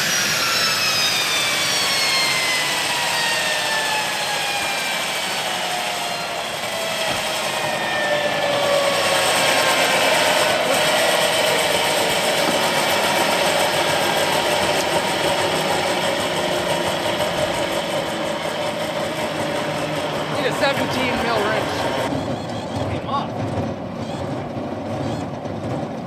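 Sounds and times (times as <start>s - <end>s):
faint turbine whine: 0.0s - 25.7s
jet turbine roaring: 0.0s - 26.0s.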